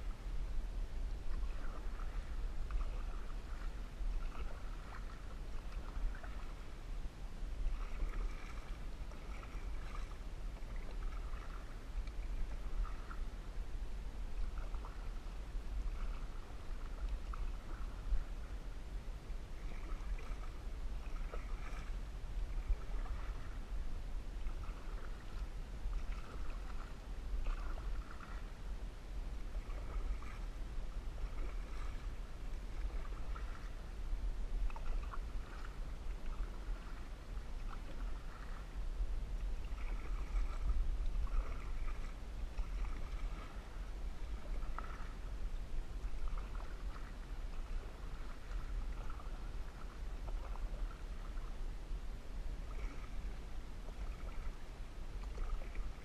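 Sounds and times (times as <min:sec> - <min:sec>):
paddle strokes splashing in water: 0:01.0 - 0:56.0.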